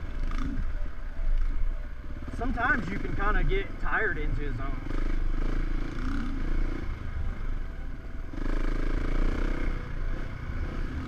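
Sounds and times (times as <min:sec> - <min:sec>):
motorcycle engine under throttle: 0:02.1 - 0:11.0.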